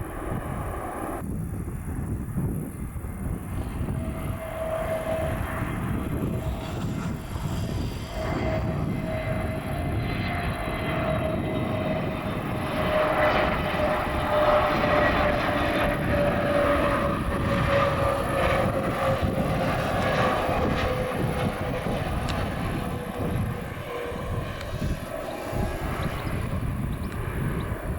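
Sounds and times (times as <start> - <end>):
jet airliner engines passing: 0.0 - 27.9.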